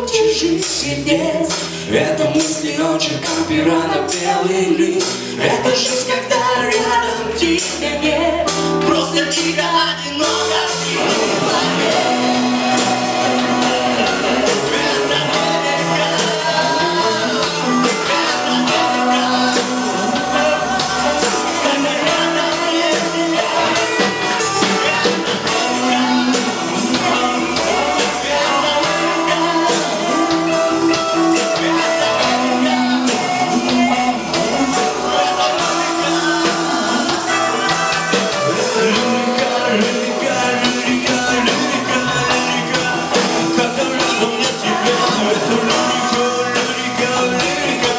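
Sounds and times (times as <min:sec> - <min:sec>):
rock band music: 0:00.0 - 0:47.9.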